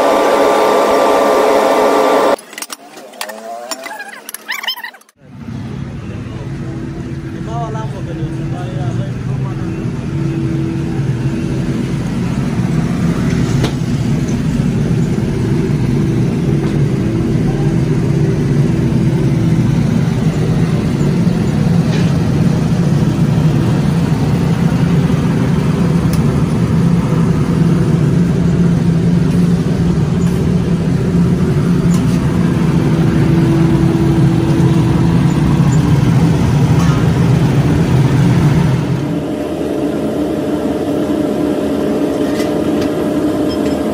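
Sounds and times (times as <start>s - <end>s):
low mechanical drone: 0.0s - 43.9s.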